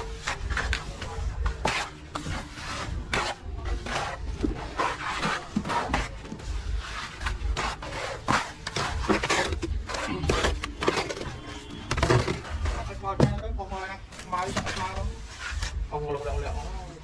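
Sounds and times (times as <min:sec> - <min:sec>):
hand tools scraping and knocking: 0:00.0 - 0:15.8.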